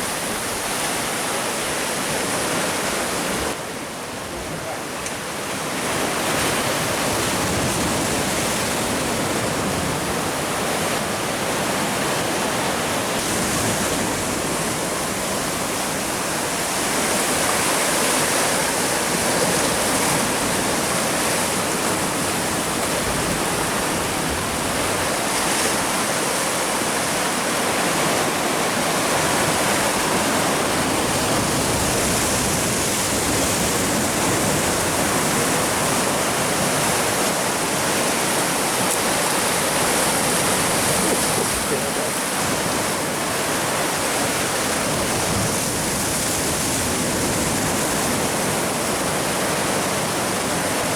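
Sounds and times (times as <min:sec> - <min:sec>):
sea water washing over rocks: 0:05.2 - 0:50.9.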